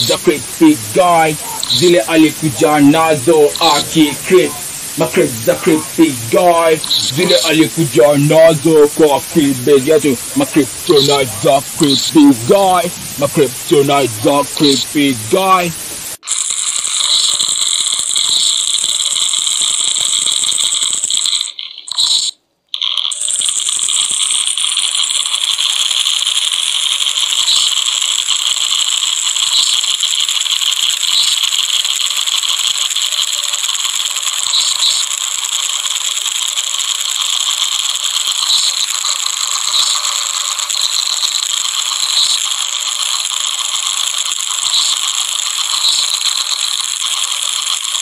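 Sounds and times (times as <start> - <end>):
harsh high-pitched rattling: 0.0 - 48.0.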